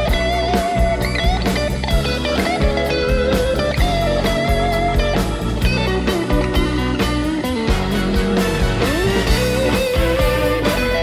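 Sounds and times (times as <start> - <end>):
bass and drum groove: 0.0 - 11.0
lead electric guitar bending notes: 0.0 - 11.0.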